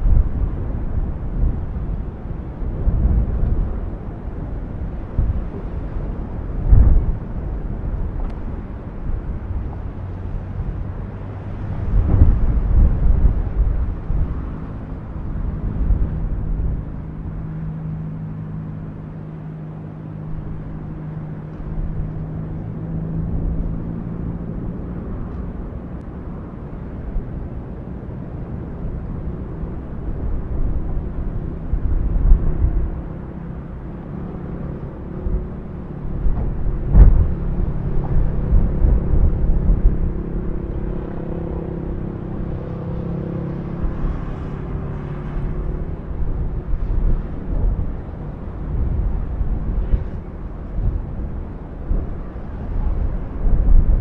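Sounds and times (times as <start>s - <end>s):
volcano deep rumble: 0.0s - 54.0s.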